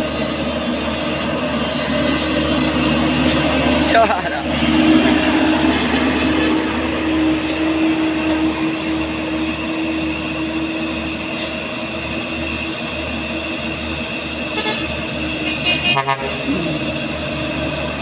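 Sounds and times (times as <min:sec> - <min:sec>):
diesel truck engines droning: 0:00.0 - 0:18.0.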